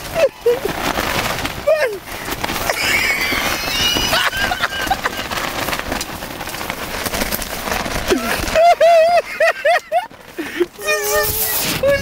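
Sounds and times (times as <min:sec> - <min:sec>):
tent fabric flapping in wind: 0:00.0 - 0:12.0.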